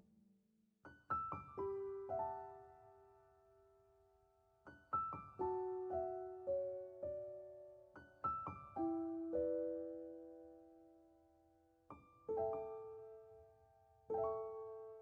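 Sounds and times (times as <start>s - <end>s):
gentle solo piano: 0.8s - 15.0s.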